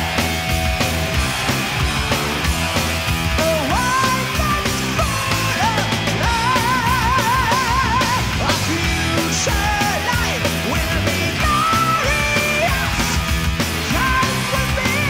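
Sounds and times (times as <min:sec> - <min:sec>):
bass guitar: 0:00.0 - 0:15.0
distorted guitars: 0:00.0 - 0:15.0
drums: 0:00.0 - 0:15.0.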